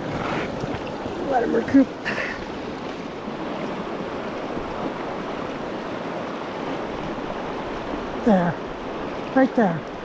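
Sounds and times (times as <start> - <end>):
river water over rocks: 0.0 - 10.0.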